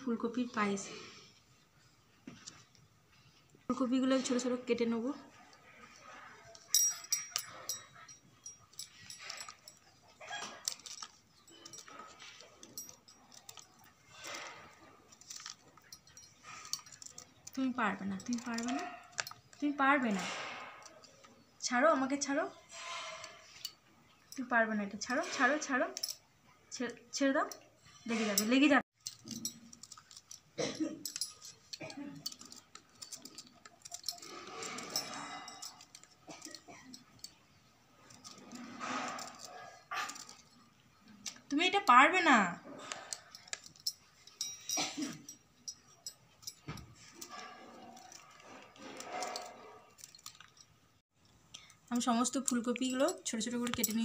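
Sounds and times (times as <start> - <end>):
bangles clinking: 0.0 - 54.0.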